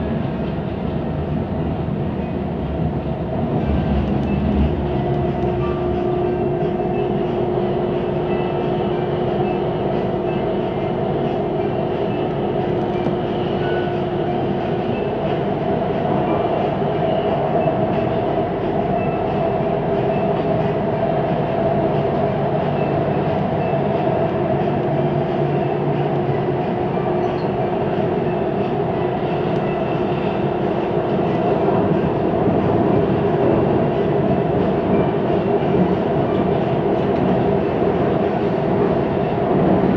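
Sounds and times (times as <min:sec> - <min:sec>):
train wheels rolling on rails: 0:00.1 - 0:39.9.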